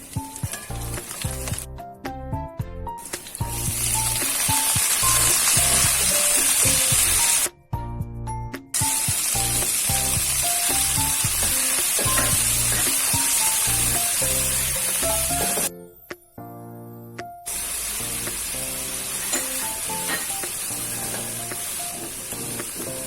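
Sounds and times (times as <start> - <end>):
food sizzling in hot oil: 0.0 - 1.7, 3.0 - 7.5, 8.8 - 15.7, 17.5 - 23.0.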